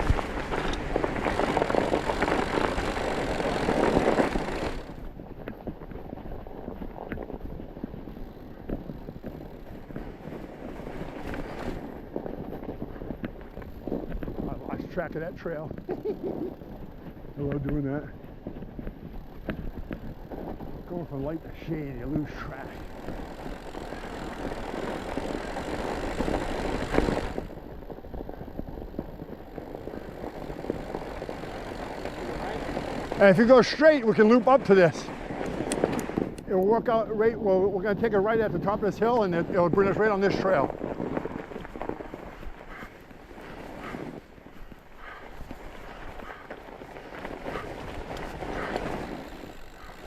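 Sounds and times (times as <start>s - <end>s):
tyre chain clicks: 0.0s - 36.7s, 38.4s - 50.0s
bike tyres crunching on snow: 0.0s - 50.0s
wind buffeting microphone: 0.0s - 50.0s.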